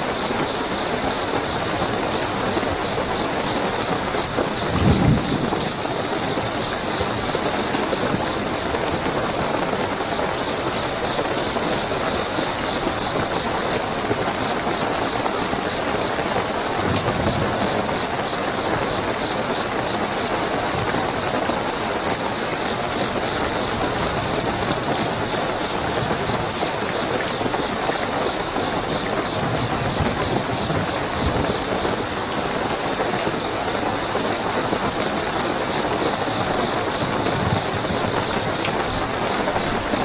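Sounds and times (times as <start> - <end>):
crickets trilling: 0.0 - 40.0
heavy rainfall: 0.0 - 40.0.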